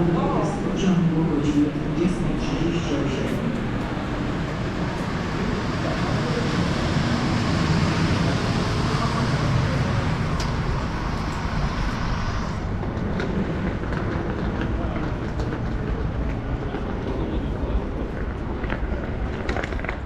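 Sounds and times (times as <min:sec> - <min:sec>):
train rumbling and hissing: 0:00.0 - 0:20.0.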